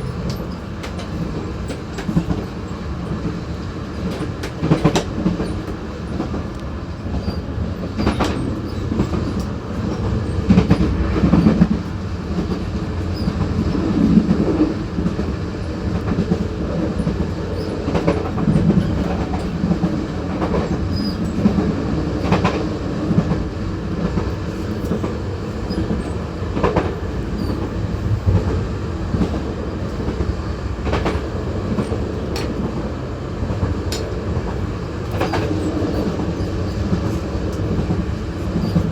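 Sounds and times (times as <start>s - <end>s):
rail cars rumbling: 0.0s - 38.9s.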